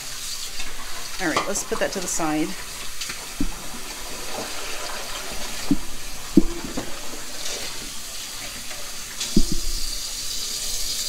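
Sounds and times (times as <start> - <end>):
tap water splashing: 0.4 - 10.4.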